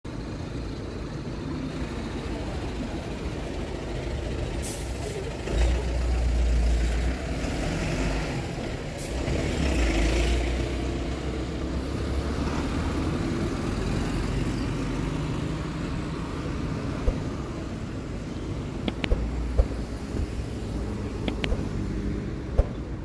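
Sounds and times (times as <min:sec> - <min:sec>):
heavy vehicles rumbling past: 0:00.1 - 0:23.0.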